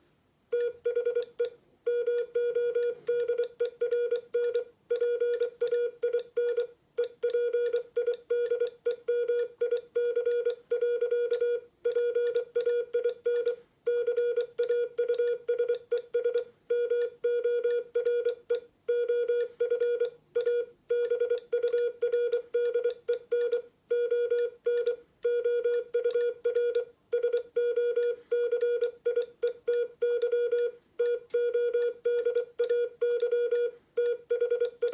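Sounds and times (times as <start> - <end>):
morse code beeps: 1.9 - 34.9.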